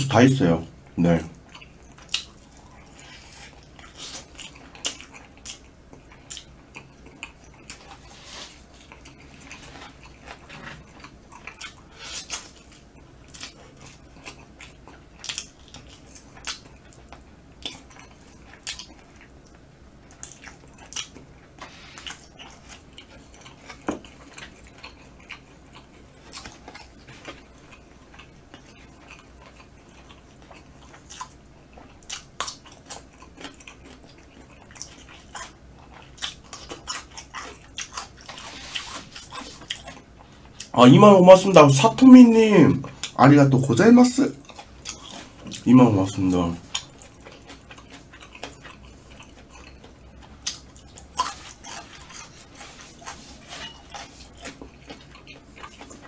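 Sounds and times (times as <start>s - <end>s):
person chewing with wet smacks: 1.3s - 56.0s.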